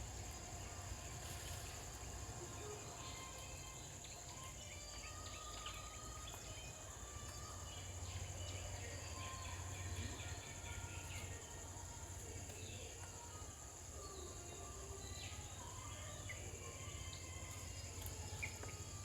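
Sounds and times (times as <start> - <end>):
insect drone: 0.0 - 19.0.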